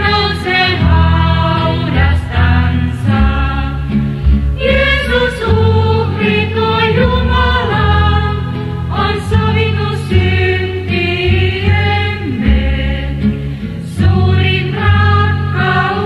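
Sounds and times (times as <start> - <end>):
voices singing slow melody: 0.0 - 16.0.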